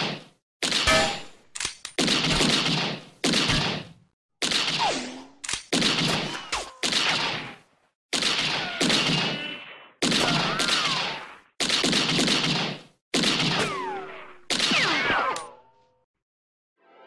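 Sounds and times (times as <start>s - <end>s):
gunshots: 0.0s - 1.2s, 1.9s - 15.5s.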